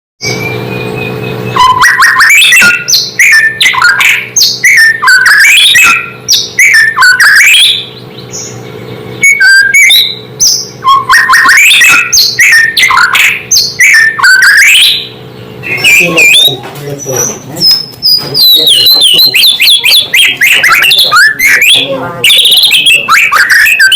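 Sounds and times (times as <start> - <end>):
bird singing whistled song: 0.2 - 23.9.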